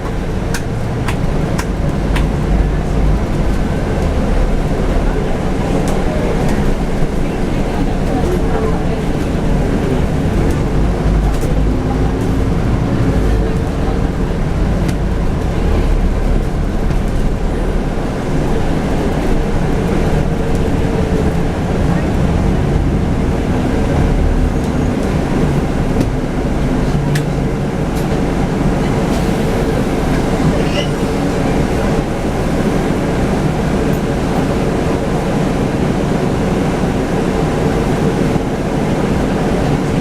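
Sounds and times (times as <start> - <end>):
bus engine drone: 0.0 - 40.0.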